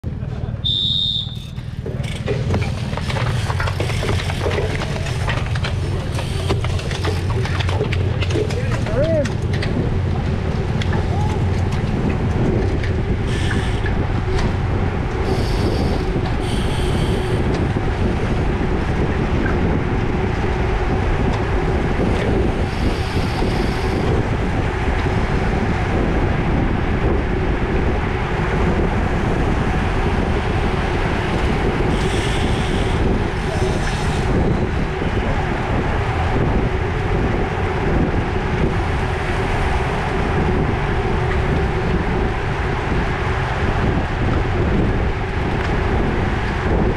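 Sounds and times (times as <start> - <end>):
hum of bicycle tyres: 0.0 - 46.9
wind buffeting microphone: 0.0 - 46.9.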